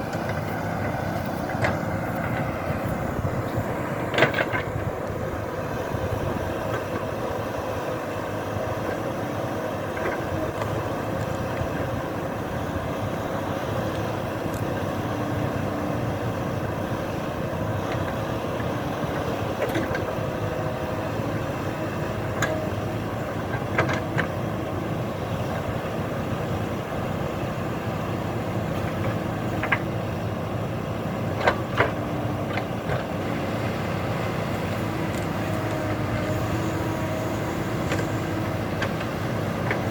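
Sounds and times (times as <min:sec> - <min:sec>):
engine-like drone: 0:00.0 - 0:39.9.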